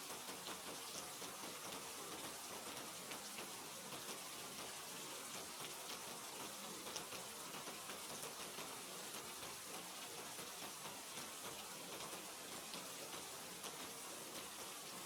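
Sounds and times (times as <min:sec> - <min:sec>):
rain hiss: 0:00.0 - 0:15.0
raindrops ticking on a surface: 0:00.0 - 0:15.0.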